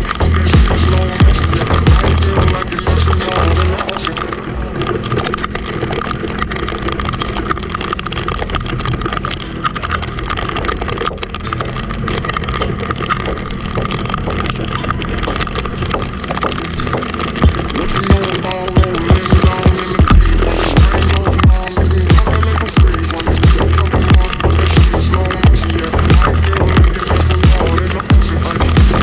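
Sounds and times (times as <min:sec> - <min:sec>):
motorcycle engine running: 0:00.0 - 0:03.8, 0:04.8 - 0:29.0
small crackles: 0:00.0 - 0:29.0
wind and road noise: 0:00.0 - 0:29.0.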